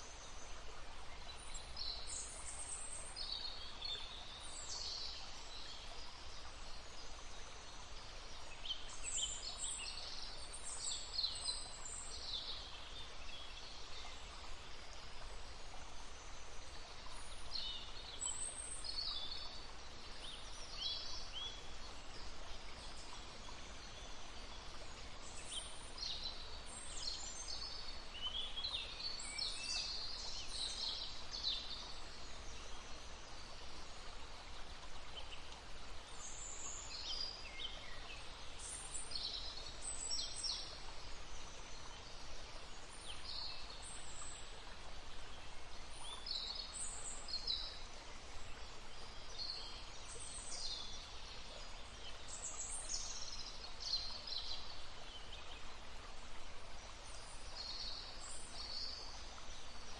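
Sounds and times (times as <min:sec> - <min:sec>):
babbling brook: 0:00.0 - 0:59.9
songbirds singing: 0:00.0 - 0:59.9.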